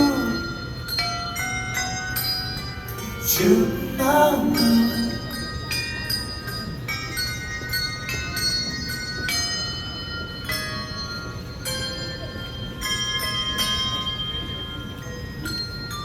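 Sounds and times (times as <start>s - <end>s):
handbells ringing: 0.0s - 16.0s.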